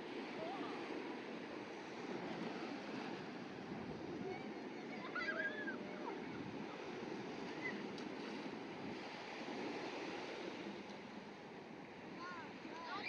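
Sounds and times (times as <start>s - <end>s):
ocean surf washing onto beach: 0.0s - 13.0s.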